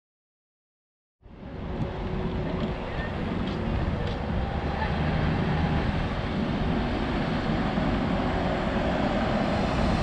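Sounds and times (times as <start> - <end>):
coach engine and tyre noise: 1.2 - 10.0
traffic noise: 1.2 - 10.0
wind on microphone: 1.3 - 10.0.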